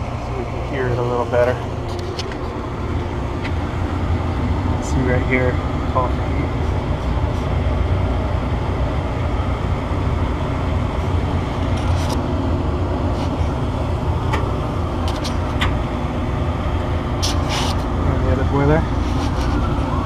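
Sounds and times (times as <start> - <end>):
boiler burner rumble: 0.0 - 20.0.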